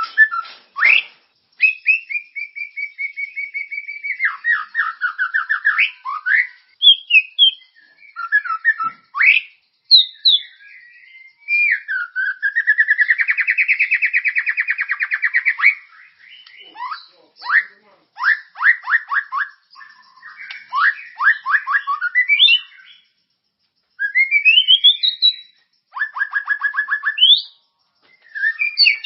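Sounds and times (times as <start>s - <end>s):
songbird whistled phrases: 0.0s - 23.2s, 23.9s - 29.0s
rapid bird trill: 0.0s - 29.0s.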